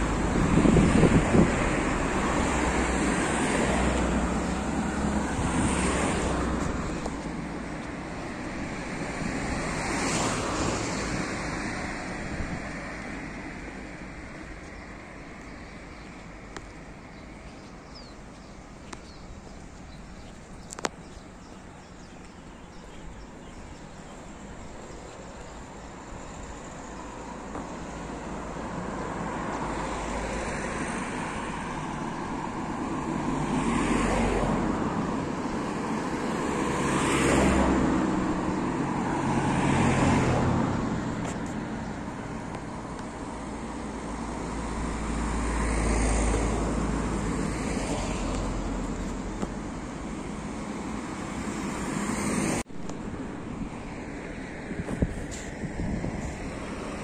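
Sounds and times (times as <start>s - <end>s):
cars passing: 0.0s - 57.0s
steady traffic hum: 0.0s - 57.0s.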